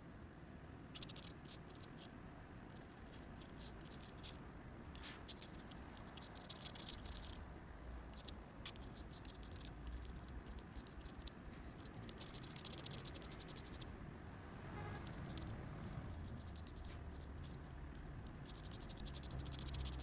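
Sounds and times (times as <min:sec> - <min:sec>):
faint low hum: 0:00.0 - 0:20.0
pen nib scratching on paper: 0:01.0 - 0:02.1, 0:02.7 - 0:04.4, 0:05.0 - 0:07.4, 0:08.0 - 0:13.9, 0:14.8 - 0:20.0.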